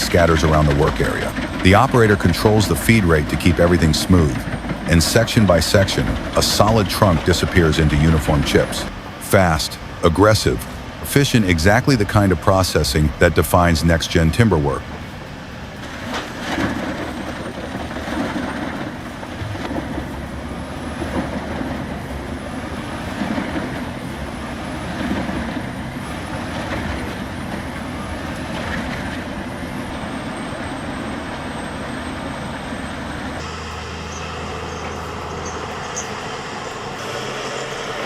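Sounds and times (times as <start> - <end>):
heavy machinery engine humming: 0.0 - 38.0.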